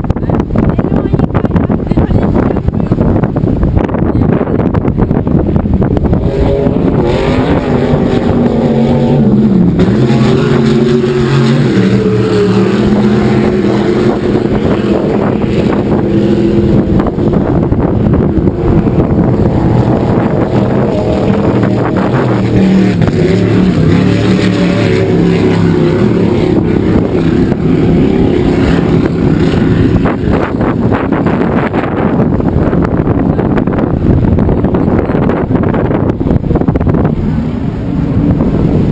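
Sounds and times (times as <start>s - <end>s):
powerboat engines droning: 0.0s - 38.9s.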